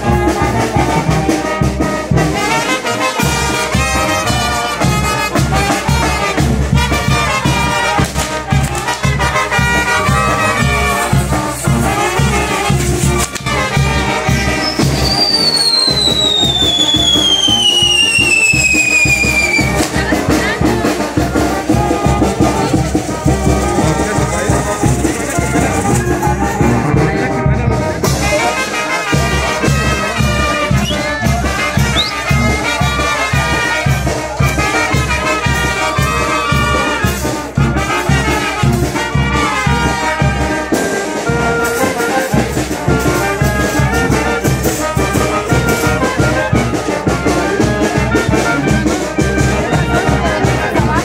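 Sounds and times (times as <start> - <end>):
brass band playing: 0.0 - 51.0
steady drum beat: 0.0 - 51.0.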